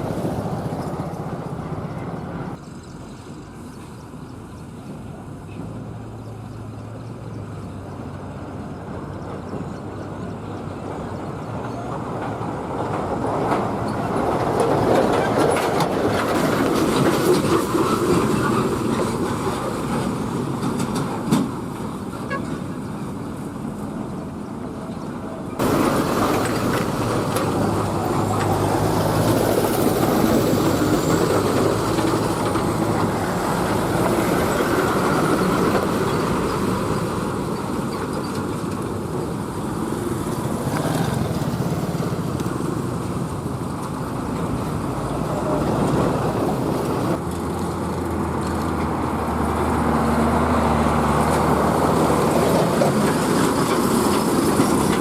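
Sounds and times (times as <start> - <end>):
steady traffic noise: 0.0 - 55.0
trucks driving past: 0.0 - 55.0.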